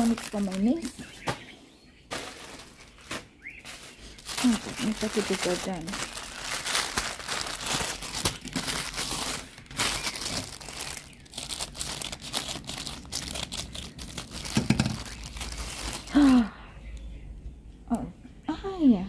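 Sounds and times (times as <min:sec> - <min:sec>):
packaging crinkling: 0:00.0 - 0:01.4, 0:02.1 - 0:16.4.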